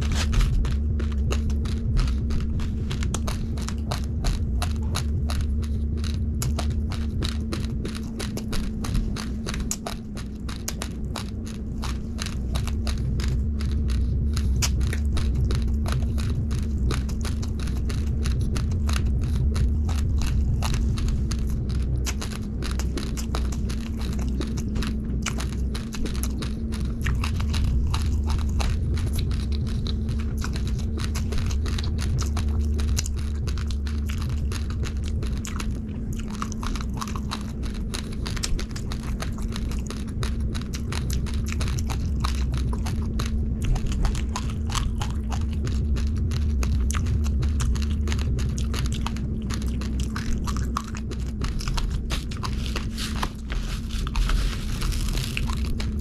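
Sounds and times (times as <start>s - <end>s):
crunching uncooked rice: 0.0s - 56.0s
low hum: 0.0s - 56.0s.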